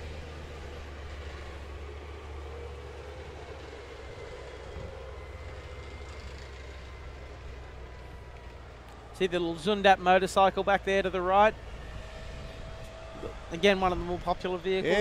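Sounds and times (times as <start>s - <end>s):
tank diesel engine droning: 0.0s - 15.0s.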